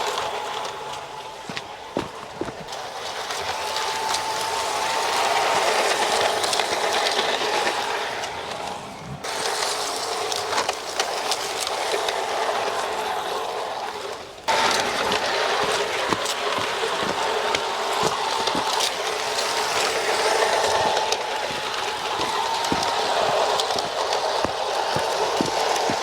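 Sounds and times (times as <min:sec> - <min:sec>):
electric motor hum: 0:00.0 - 0:26.0
wheels rumbling on rail: 0:00.0 - 0:26.0.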